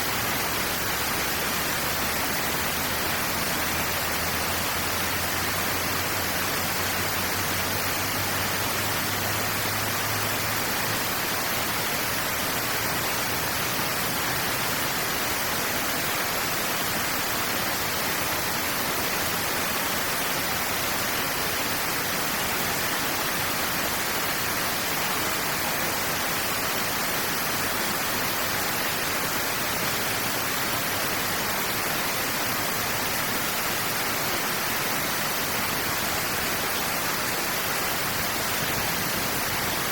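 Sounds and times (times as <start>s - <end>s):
water rushing through channel: 0.0s - 39.9s.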